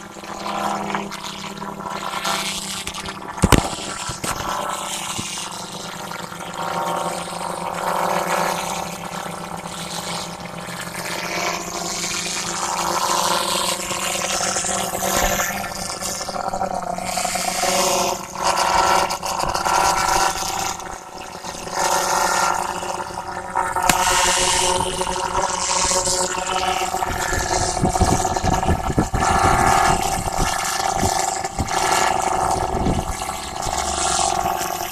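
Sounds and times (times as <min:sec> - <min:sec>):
drone propellers buzzing: 0:00.0 - 0:34.9.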